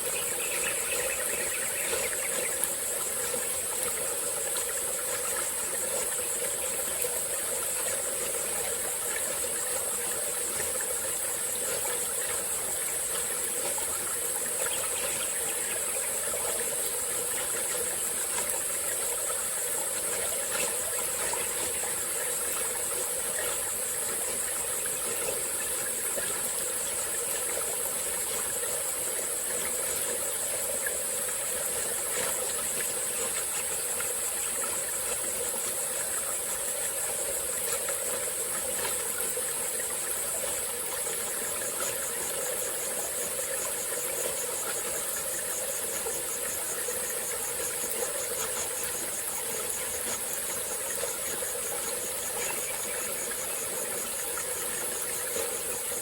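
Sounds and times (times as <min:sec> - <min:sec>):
insects droning: 0:00.0 - 0:56.0
stream running: 0:00.0 - 0:56.0.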